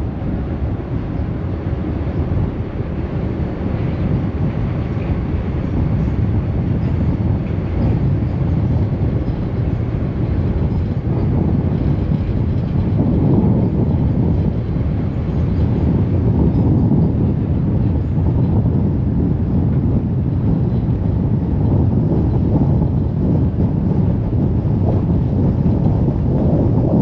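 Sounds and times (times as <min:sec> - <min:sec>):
ferry engine rumble: 0:00.0 - 0:27.0
wind noise: 0:00.0 - 0:27.0.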